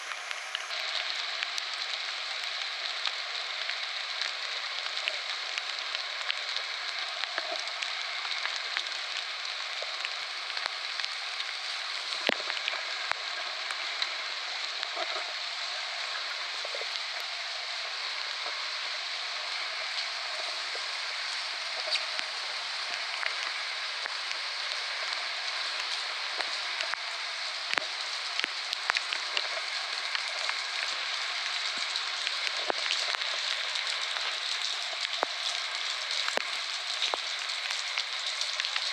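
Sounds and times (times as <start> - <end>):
rain falling on plants: 0.0 - 38.9.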